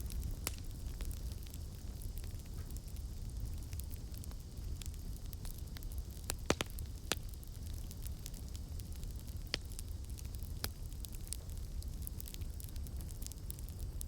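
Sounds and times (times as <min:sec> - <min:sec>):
burning wood crackling and popping: 0:00.0 - 0:14.0
campfire flames rumbling: 0:00.0 - 0:14.0.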